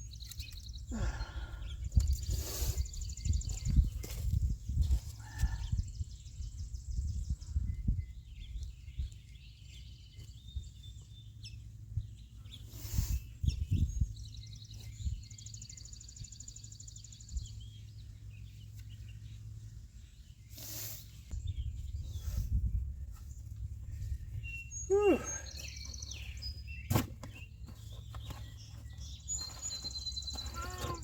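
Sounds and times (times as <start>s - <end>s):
birds calling: 0.0s - 4.2s, 5.1s - 31.0s.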